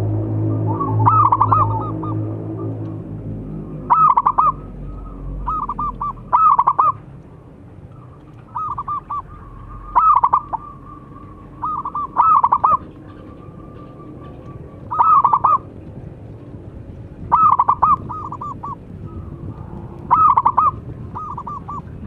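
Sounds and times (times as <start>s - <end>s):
dove cooing: 0.5s - 7.0s, 8.0s - 15.8s, 17.2s - 22.0s.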